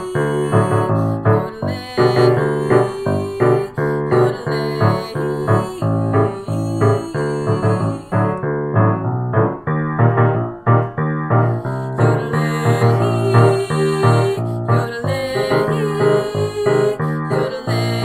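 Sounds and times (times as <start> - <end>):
piano repeated note pattern: 0.0 - 18.0.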